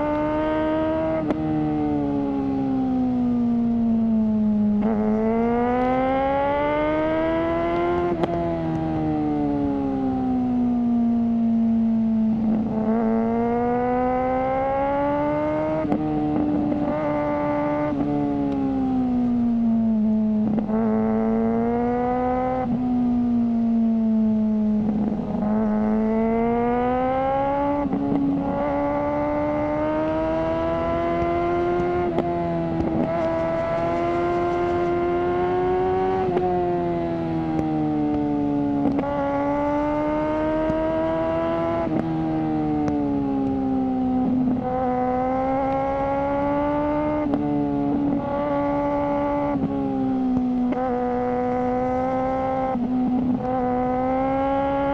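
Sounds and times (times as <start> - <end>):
motorcycle engine changing gears: 0.0 - 54.9.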